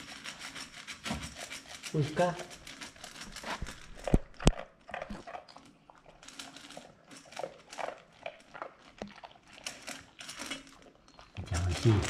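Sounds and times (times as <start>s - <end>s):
puppy crunching dry food: 0.0s - 12.0s.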